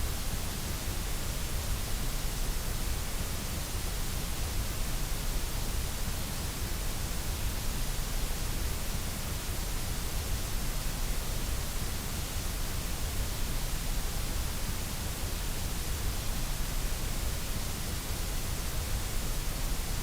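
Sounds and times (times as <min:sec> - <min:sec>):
white noise hiss: 0:00.0 - 0:20.0.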